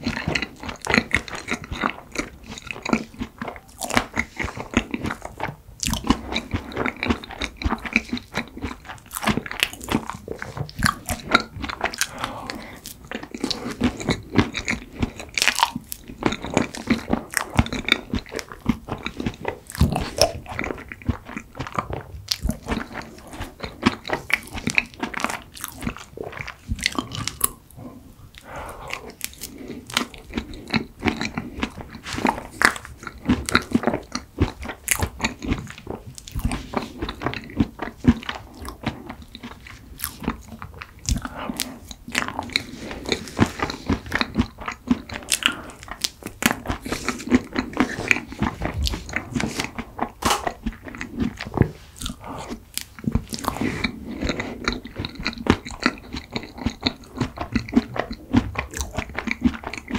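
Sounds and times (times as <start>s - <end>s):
wet chewing and lip smacks: 0.0s - 59.9s.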